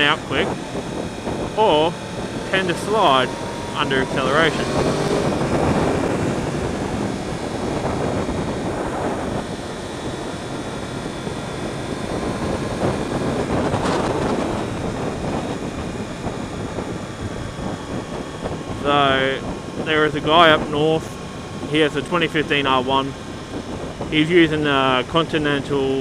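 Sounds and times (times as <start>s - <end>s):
motorcycle engine drone: 0.0s - 26.0s
wind and road noise: 0.0s - 26.0s.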